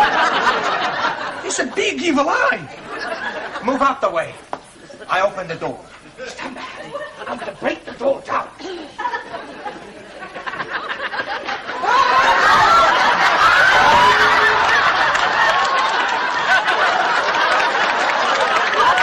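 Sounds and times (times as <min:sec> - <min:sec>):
studio audience laughing: 0:00.0 - 0:01.9, 0:02.6 - 0:03.9, 0:06.0 - 0:19.0.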